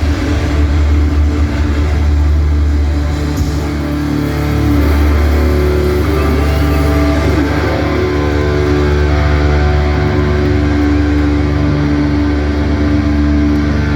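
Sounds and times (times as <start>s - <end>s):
punk band playing loud: 0.0s - 13.9s.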